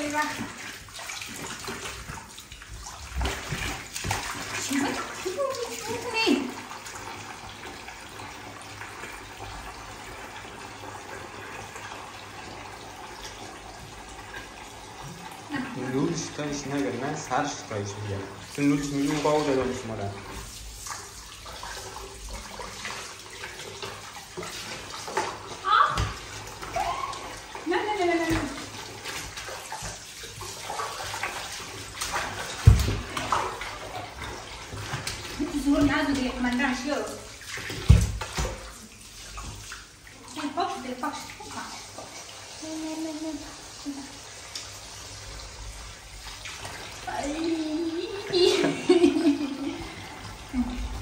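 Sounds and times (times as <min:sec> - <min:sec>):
water running from bath tap: 0:00.0 - 0:51.0.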